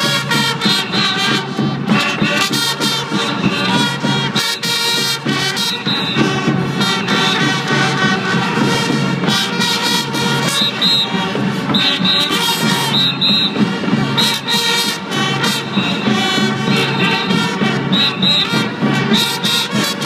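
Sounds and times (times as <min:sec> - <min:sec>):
children playing trumpets: 0:00.0 - 0:20.0.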